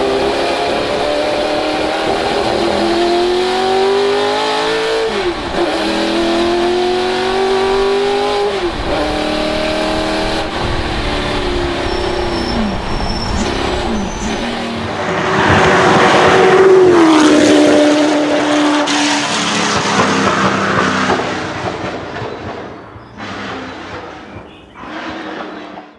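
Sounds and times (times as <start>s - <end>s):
race car engine at speed: 0.0s - 25.9s.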